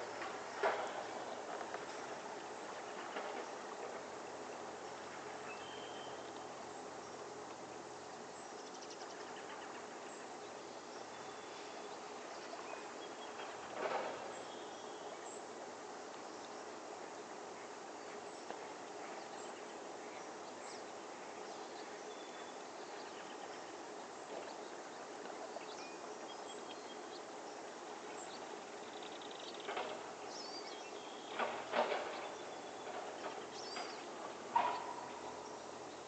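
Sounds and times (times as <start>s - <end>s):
steady background hiss: 0.0s - 36.0s.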